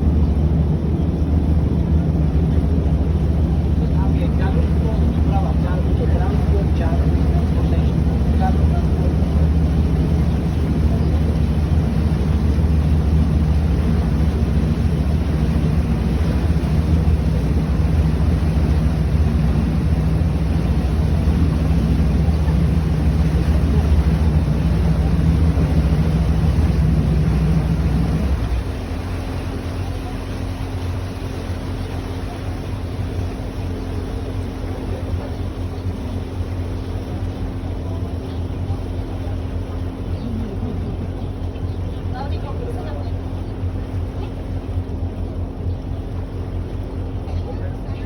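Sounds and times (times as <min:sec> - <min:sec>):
boat engine low hum: 0:00.0 - 0:48.0.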